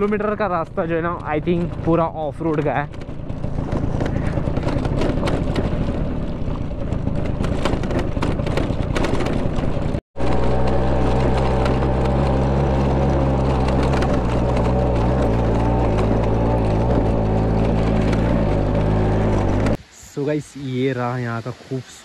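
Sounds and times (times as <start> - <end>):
rattles and knocks from bumps: 0.0 - 19.8
scooter engine running: 0.0 - 19.8.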